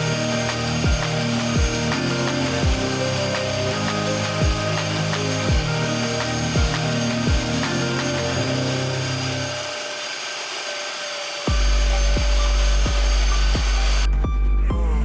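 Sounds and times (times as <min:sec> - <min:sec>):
music with steady beat: 0:00.0 - 0:09.5, 0:11.5 - 0:15.0.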